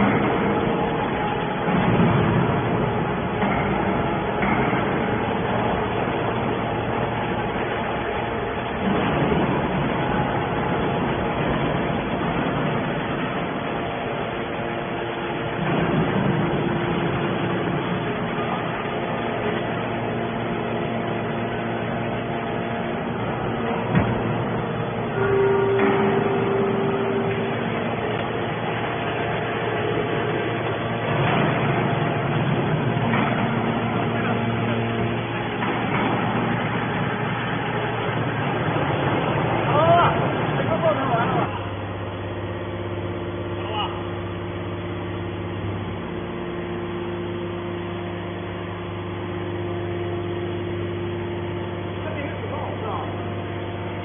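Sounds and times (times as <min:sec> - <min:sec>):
hydraulic baler mechanical drone: 0:00.0 - 0:54.0.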